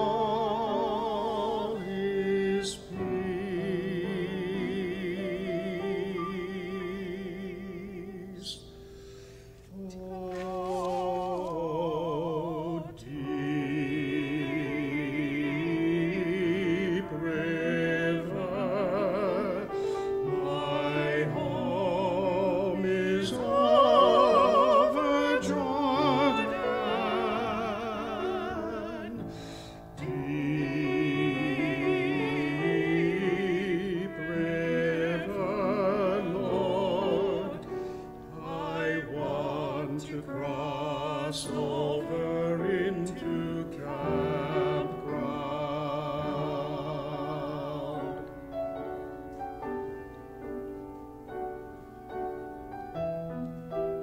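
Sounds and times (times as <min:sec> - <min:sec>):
classical singing with vibrato: 0:00.0 - 0:54.0.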